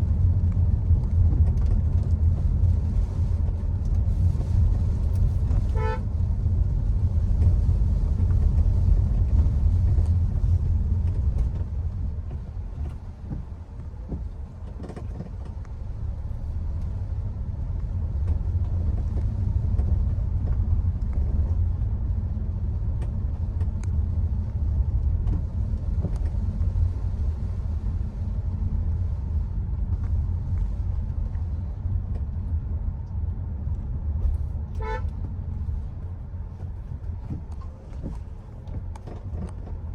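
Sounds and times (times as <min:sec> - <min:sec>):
car road and drivetrain rumble: 0:00.0 - 0:39.9.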